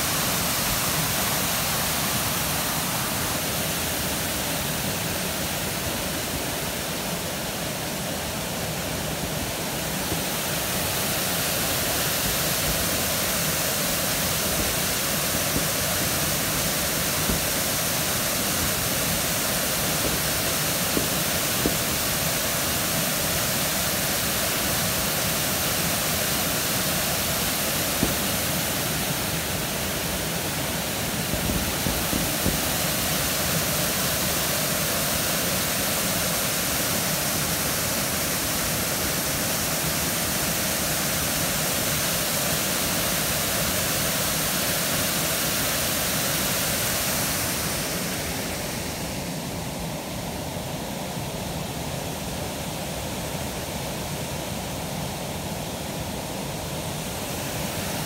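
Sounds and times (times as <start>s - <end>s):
waterfall pouring into pool: 0.0s - 49.2s.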